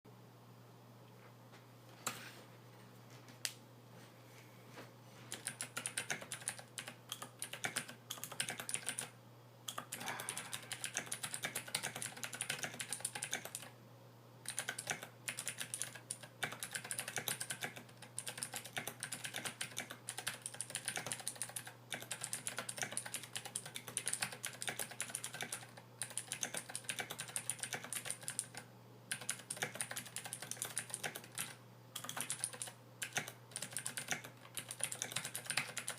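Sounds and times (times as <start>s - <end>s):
mechanical keyboard typing: 5.3s - 13.7s, 14.4s - 35.9s.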